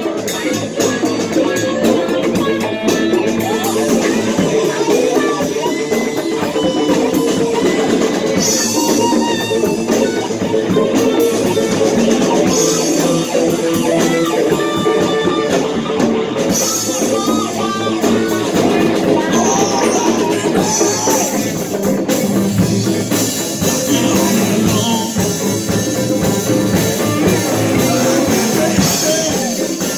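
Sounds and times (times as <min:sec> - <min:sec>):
congas: 0:00.0 - 0:29.9
drum kit: 0:00.0 - 0:29.9
electric guitars: 0:00.0 - 0:29.9.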